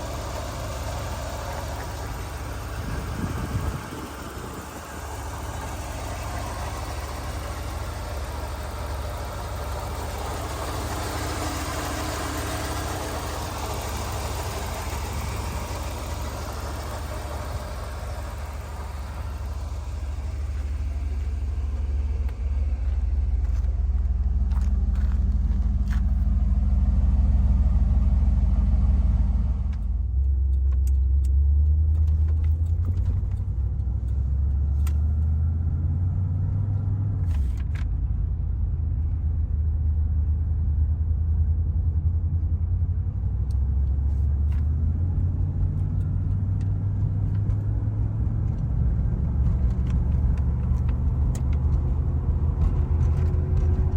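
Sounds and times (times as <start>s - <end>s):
car engine rumbling: 0.0s - 53.9s.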